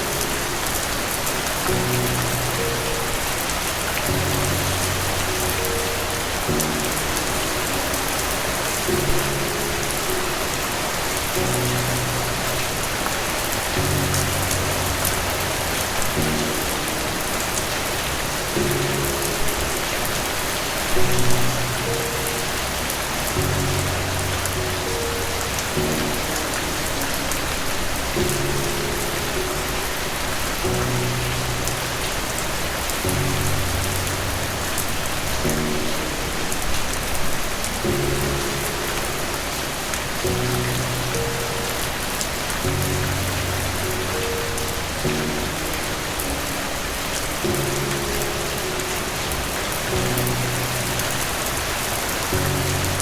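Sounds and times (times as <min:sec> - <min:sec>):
rain hiss: 0:00.0 - 0:53.0
soft low musical chords: 0:00.0 - 0:53.0.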